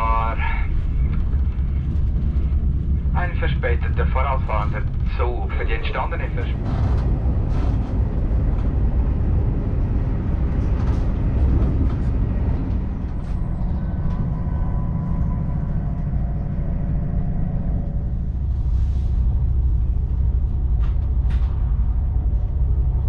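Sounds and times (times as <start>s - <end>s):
faint steady tones: 0.0s - 23.0s
train low rumble: 0.0s - 23.0s.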